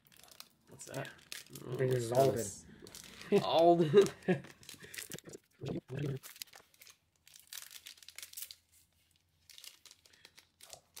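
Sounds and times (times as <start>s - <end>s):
plastic wrappers crinkling and tearing: 0.0s - 11.0s.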